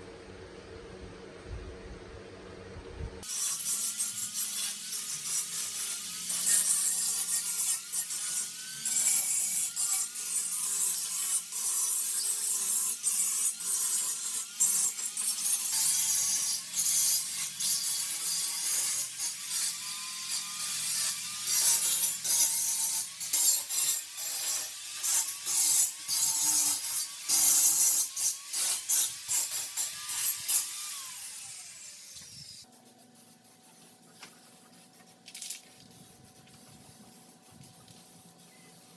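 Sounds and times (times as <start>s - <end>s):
hand tool scraping workpiece: 3.2s - 38.7s.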